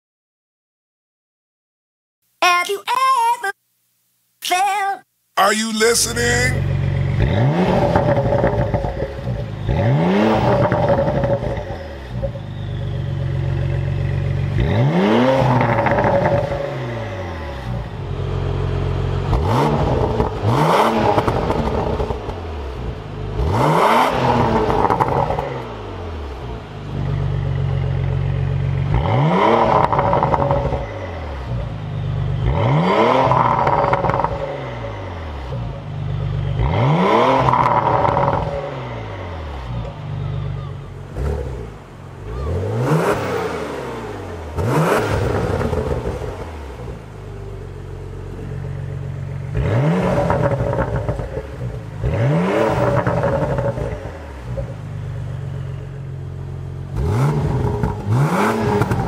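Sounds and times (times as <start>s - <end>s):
car engine revving: 6.0s - 59.0s.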